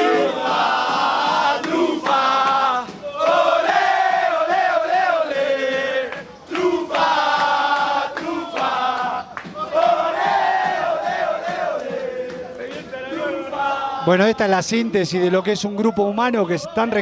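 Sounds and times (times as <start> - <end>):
group chanting a song: 0.0 - 14.1.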